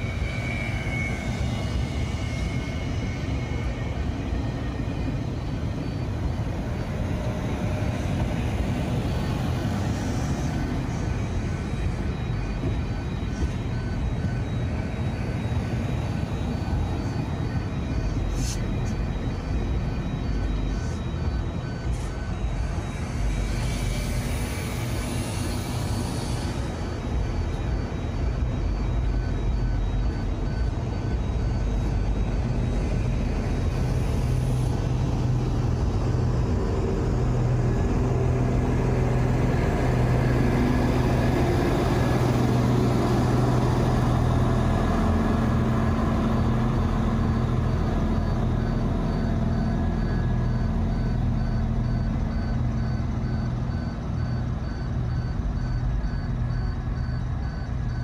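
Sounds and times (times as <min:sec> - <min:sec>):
train motors humming: 0:00.0 - 0:57.9
faint electronic beeping: 0:00.0 - 0:58.0
wheels rumbling on rail: 0:00.0 - 0:58.0.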